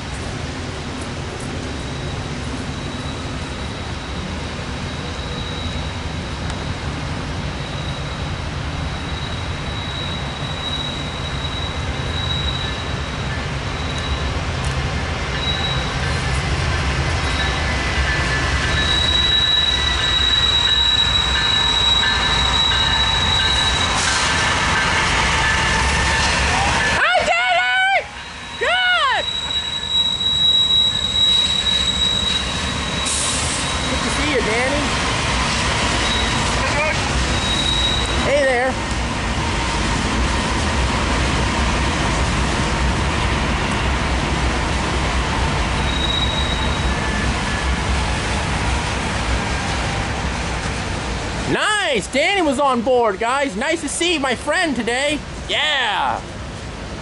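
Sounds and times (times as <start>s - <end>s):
low rumble of diesel locomotives: 0.0s - 57.0s
train wheels squealing on rail: 1.4s - 42.0s, 44.7s - 50.1s.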